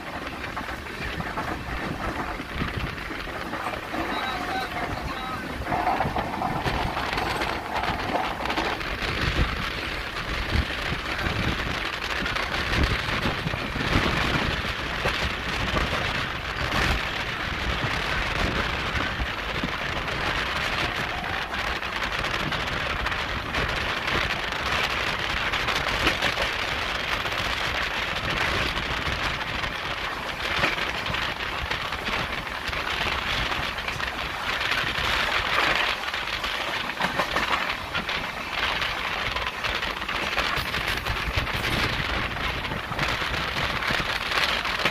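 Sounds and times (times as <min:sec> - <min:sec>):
train wheels on rails: 0:00.0 - 0:44.9
wind over microphone: 0:00.0 - 0:44.9.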